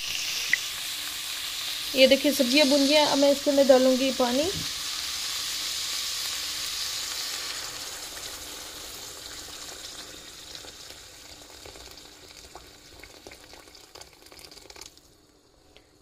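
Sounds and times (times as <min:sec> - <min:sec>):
vegetables sizzling in a pan: 0:00.0 - 0:13.7.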